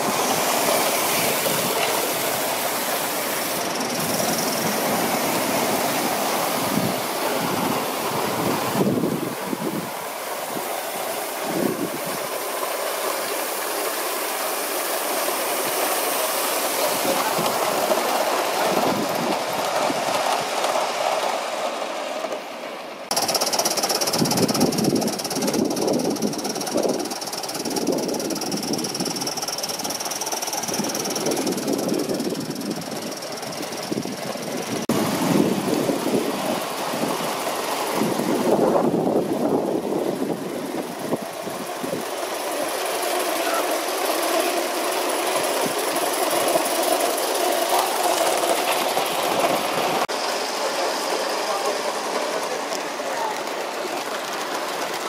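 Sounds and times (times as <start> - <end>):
exhaust puffs: 0.0 - 21.8, 23.1 - 55.0
steam locomotive hissing: 0.0 - 55.0.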